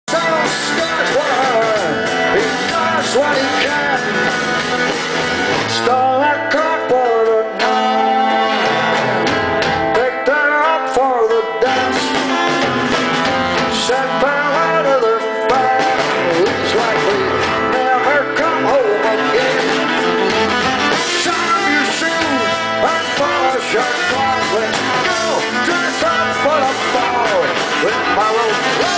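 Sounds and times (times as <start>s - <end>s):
man singing lead vocal: 0.0s - 28.9s
electric guitar: 0.1s - 28.9s
rock band playing live: 0.1s - 28.9s
strummed acoustic guitar: 0.1s - 28.9s.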